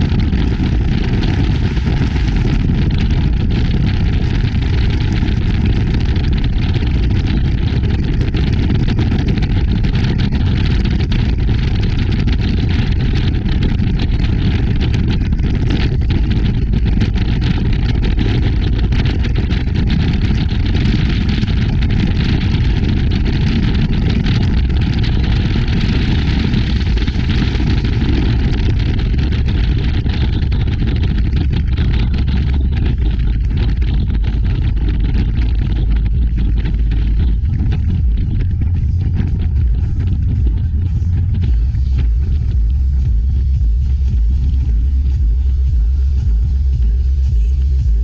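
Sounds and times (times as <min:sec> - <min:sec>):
water rushing along hull: 0:00.0 - 0:47.9
boat engine rumble: 0:00.0 - 0:48.0
wind on microphone: 0:00.0 - 0:48.0.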